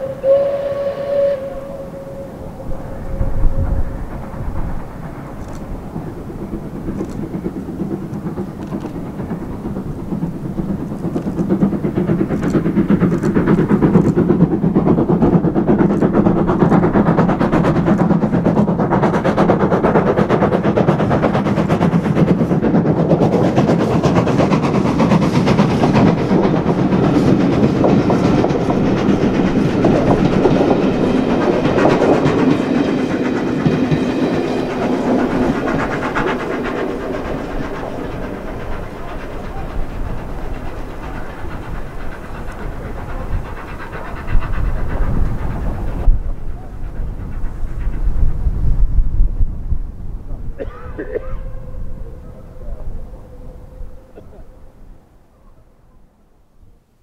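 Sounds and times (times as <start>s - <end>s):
steam locomotive passing: 0.0s - 57.0s.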